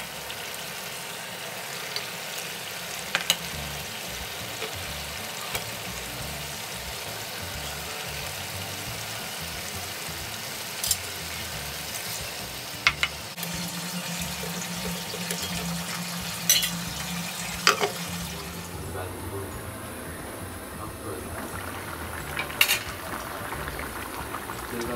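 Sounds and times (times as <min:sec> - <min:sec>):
food sizzling in a pan: 0:00.0 - 0:19.0, 0:21.2 - 0:24.9.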